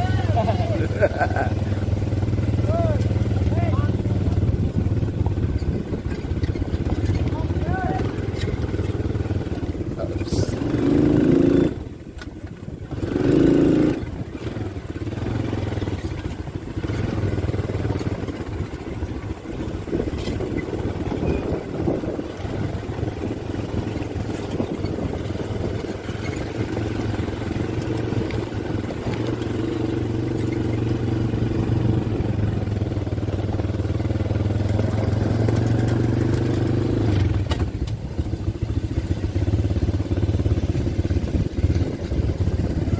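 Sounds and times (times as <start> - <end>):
quad bike engines running: 0.0 - 42.9.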